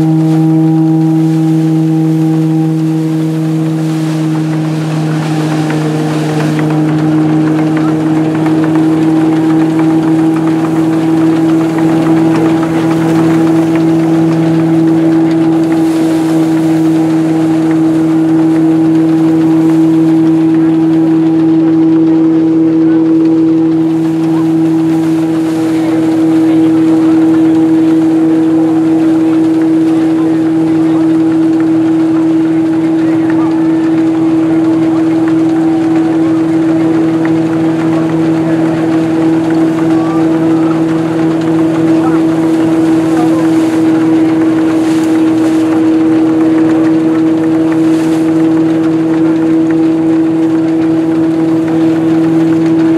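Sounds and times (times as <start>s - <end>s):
threshing machine humming: 0.0s - 52.9s.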